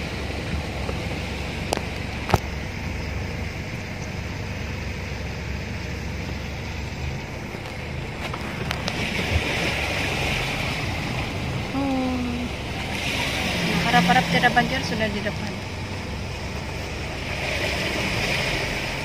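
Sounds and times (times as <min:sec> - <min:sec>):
car engine rumble: 0:00.0 - 0:19.0
water washing against car: 0:00.0 - 0:19.0.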